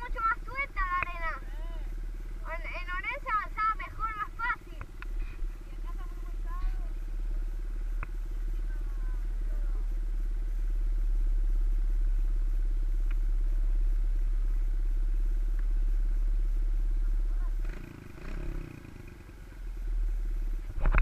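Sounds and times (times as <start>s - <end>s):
motorbike engines idling: 0.0s - 21.0s.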